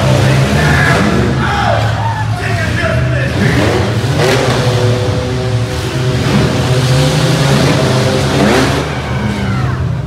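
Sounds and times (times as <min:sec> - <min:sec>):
truck engines revving: 0:00.0 - 0:10.0.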